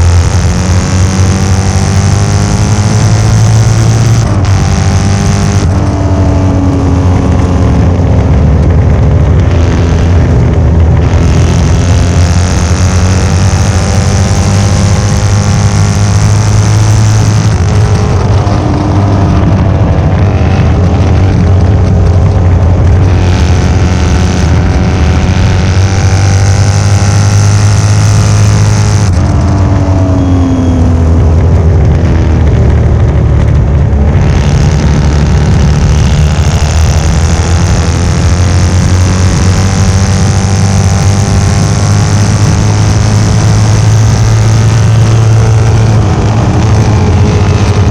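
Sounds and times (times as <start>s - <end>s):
racing engine revving: 0.0s - 47.9s.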